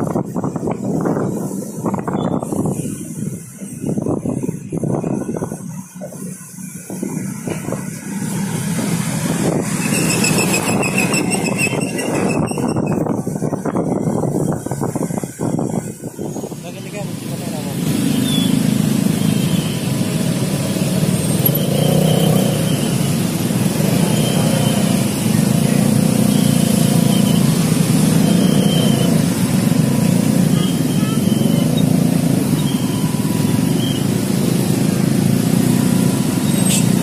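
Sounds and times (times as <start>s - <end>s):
motorcycle and car engines passing: 0.0s - 37.0s.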